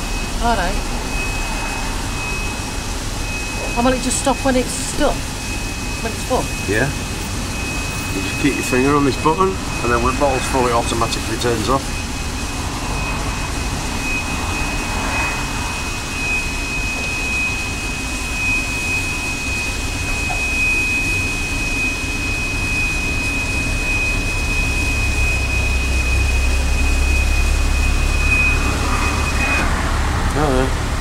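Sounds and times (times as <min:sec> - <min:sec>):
gas pump high-pitched tone: 0:00.0 - 0:31.0
low hum: 0:00.0 - 0:31.0.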